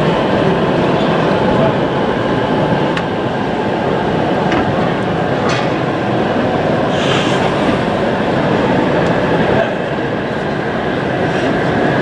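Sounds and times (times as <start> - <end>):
model trains rolling rumble: 0.0 - 12.0.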